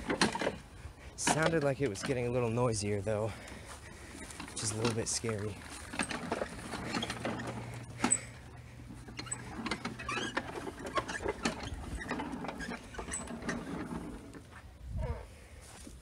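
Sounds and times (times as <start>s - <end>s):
lawn mower rattling and clicking: 0.0s - 14.6s.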